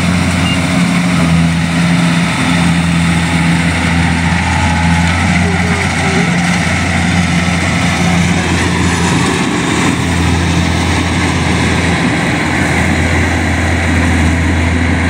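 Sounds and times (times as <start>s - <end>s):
combine harvester engine humming: 0.0s - 15.0s.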